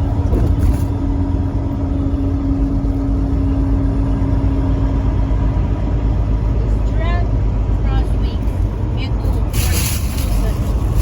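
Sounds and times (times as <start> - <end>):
car cabin road rumble: 0.0 - 11.0
constant hum: 0.0 - 11.0.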